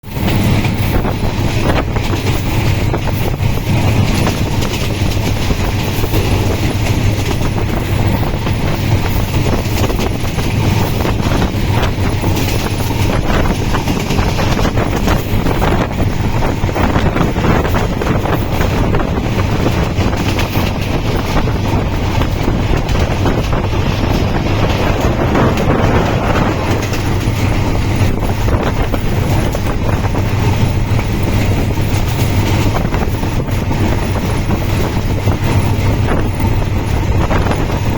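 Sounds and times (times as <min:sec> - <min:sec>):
moving vehicle rumble and rattle: 0:00.0 - 0:37.9.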